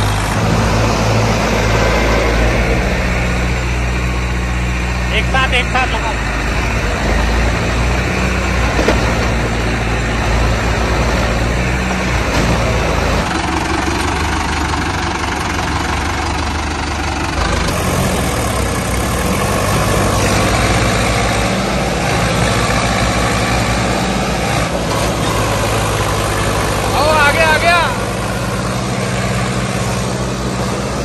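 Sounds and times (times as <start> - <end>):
diesel tractor engines under load: 0.0 - 31.0.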